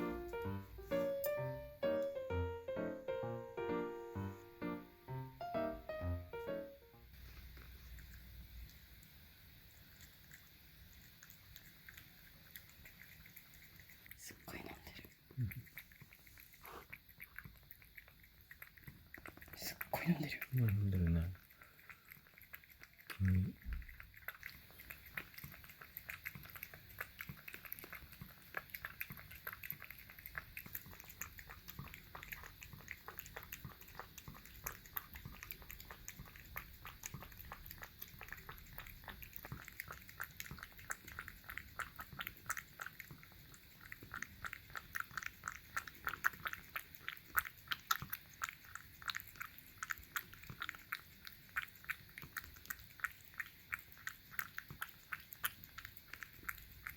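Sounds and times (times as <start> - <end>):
cat lapping and eating: 0.0 - 2.3, 7.1 - 56.9.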